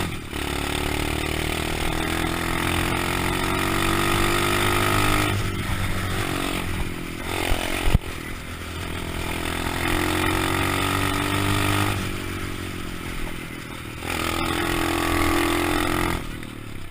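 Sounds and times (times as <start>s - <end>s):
small motorcycle engine revving: 0.0s - 16.9s.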